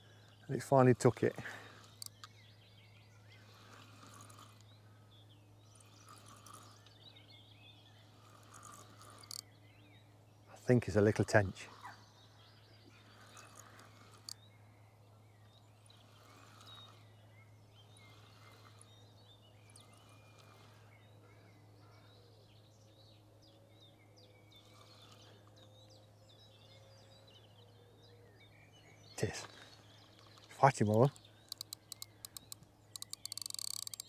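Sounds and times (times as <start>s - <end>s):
faint songbirds chirping: 0.0s - 34.0s.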